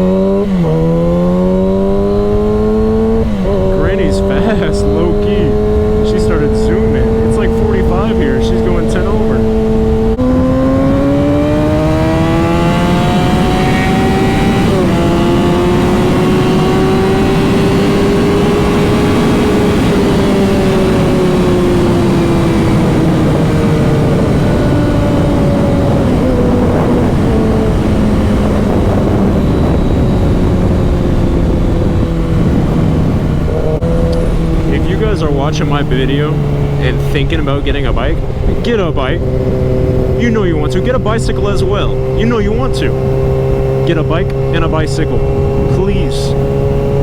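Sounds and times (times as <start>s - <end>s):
motorcycle engine accelerating: 0.0s - 47.0s
wind rushing over microphone: 0.0s - 47.0s.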